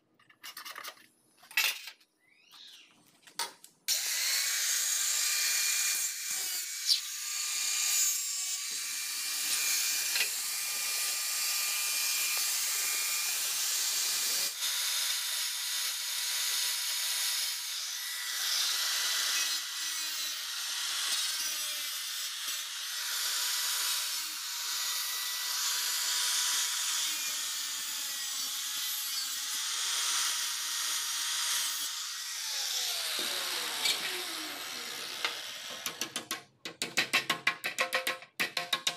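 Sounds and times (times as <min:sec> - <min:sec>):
angle grinder cutting metal: 0:03.9 - 0:36.2.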